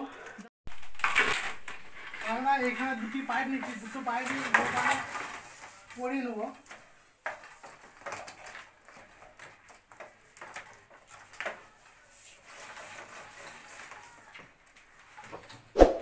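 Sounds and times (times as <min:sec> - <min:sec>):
soft scraping rustle: 0:01.0 - 0:15.7.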